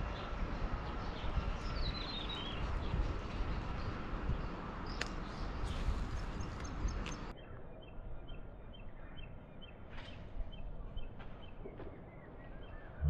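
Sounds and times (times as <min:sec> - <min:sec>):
small birds chirping: 0:00.0 - 0:13.0
steady rushing outdoor noise: 0:00.0 - 0:13.0.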